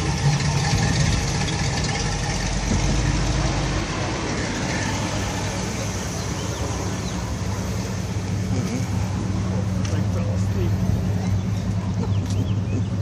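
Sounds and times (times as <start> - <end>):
old car engine driving past: 0.0 - 13.0.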